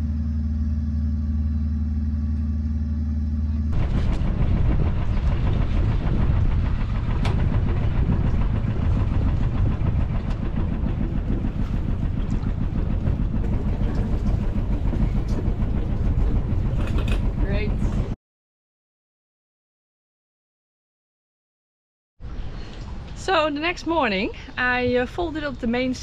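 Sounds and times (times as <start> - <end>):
boat engine running: 0.0 - 18.2, 22.3 - 26.0.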